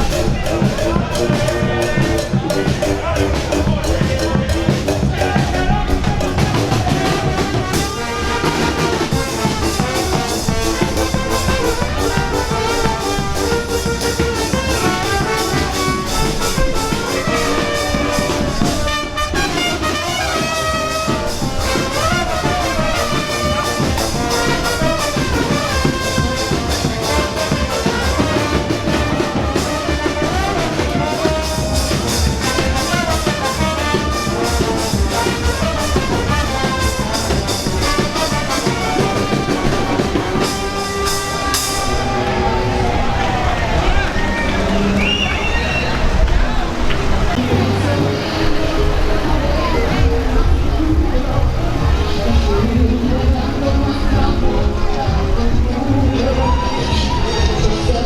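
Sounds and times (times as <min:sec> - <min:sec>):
drums: 0:00.0 - 0:58.0
trumpets and trombones melody: 0:00.0 - 0:58.0.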